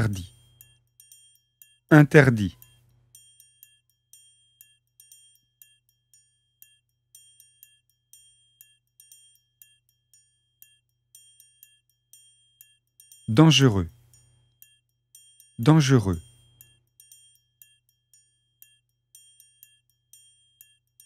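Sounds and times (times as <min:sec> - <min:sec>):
tinkling bell-like melody: 0:00.0 - 0:21.0.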